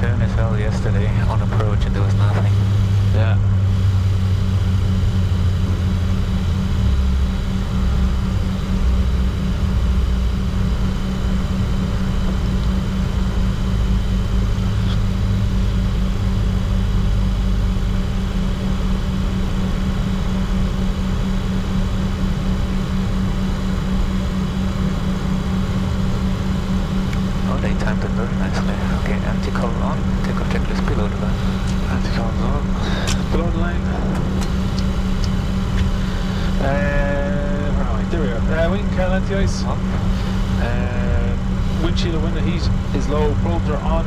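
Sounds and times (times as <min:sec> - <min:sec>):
jet engines idling in cockpit: 0:00.0 - 0:44.0.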